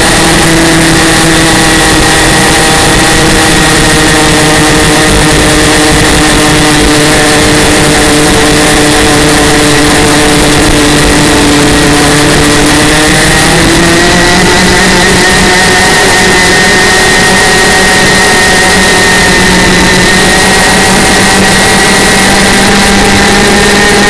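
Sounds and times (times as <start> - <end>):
boat engine running loud: 0.0 - 24.0.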